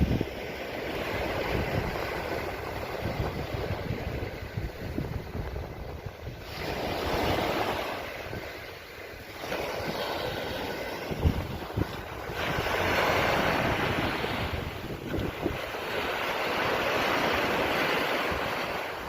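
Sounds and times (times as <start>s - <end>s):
sea waves washing onto shore: 0.0s - 19.0s
wind buffeting microphone: 0.0s - 19.0s.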